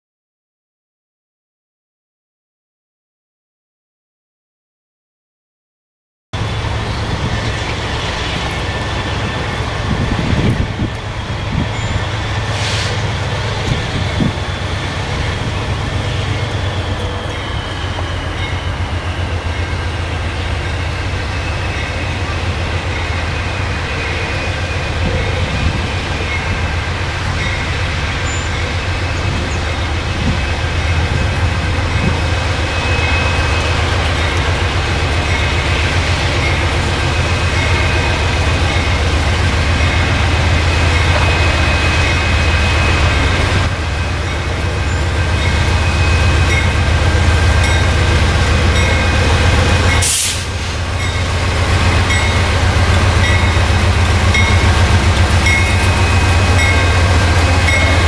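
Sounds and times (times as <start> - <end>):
freight train rumbling past: 6.4 - 58.0.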